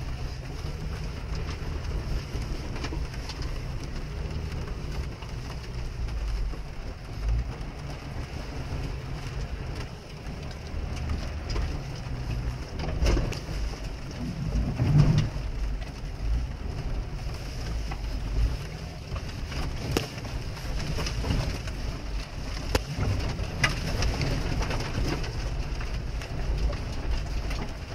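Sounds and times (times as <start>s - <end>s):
car engine drone in cabin: 0.0s - 27.9s
rain pattering on windshield: 0.0s - 27.9s.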